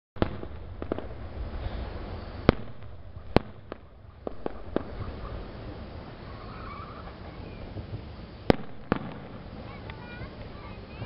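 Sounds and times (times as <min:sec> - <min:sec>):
fireworks booming: 0:00.2 - 0:11.0.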